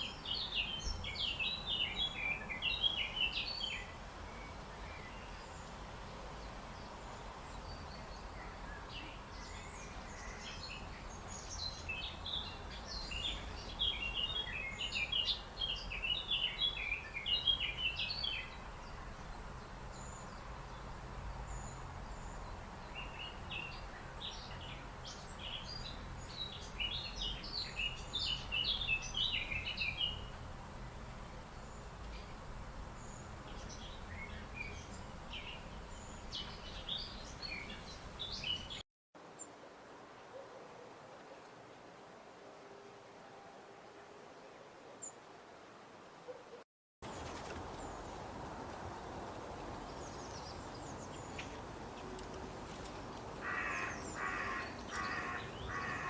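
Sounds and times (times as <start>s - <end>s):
songbird chirping: 0.0s - 38.8s, 47.0s - 56.0s
steady low hiss: 0.0s - 46.3s, 47.0s - 56.0s.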